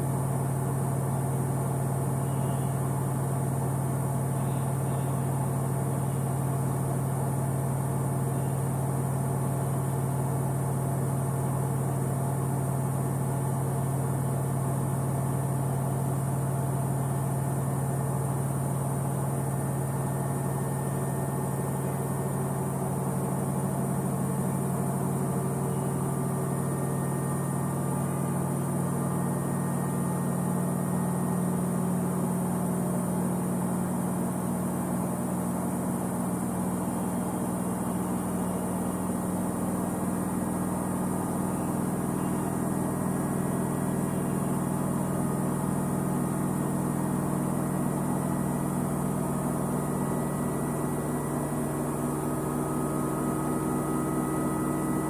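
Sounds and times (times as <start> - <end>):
washing machine motor hum: 0.0 - 55.0.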